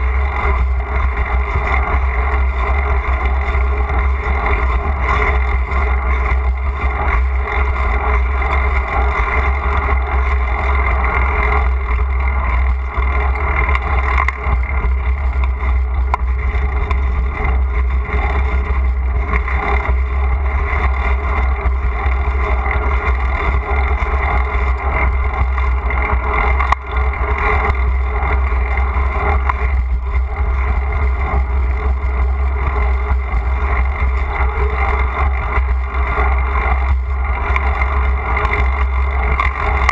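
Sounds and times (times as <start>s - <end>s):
wind and riding noise: 0.0s - 39.9s.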